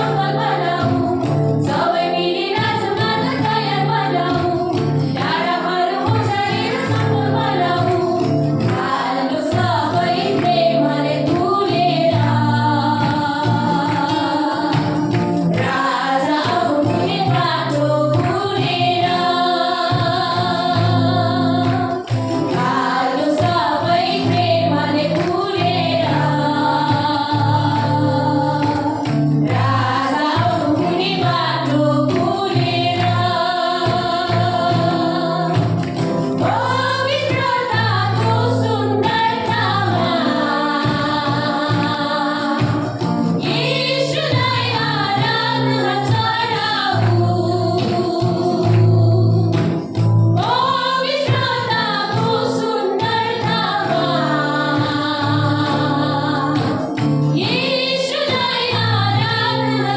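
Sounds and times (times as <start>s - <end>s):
women singing worship song: 0.0s - 59.9s.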